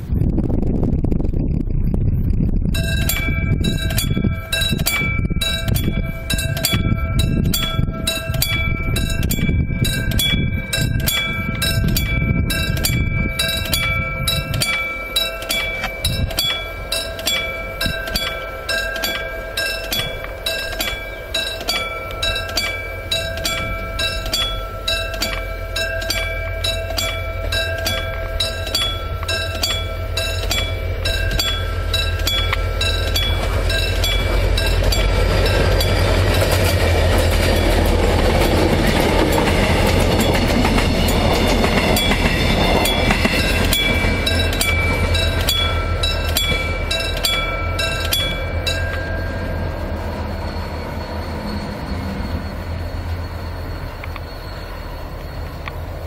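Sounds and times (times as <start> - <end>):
diesel engine drone: 0.0 - 56.0
train rumble: 0.0 - 56.0
level-crossing bell dinging: 2.7 - 56.0.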